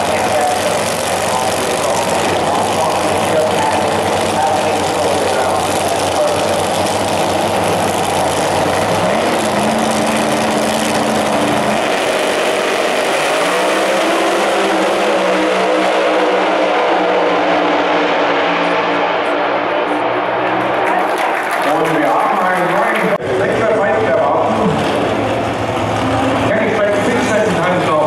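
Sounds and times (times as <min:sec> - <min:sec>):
drag racing engines revving: 0:00.0 - 0:28.0.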